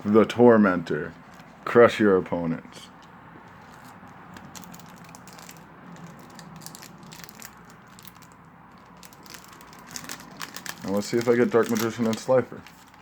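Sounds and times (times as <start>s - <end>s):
cards and wrappers clicking and rustling: 1.1s - 1.7s, 2.9s - 13.0s.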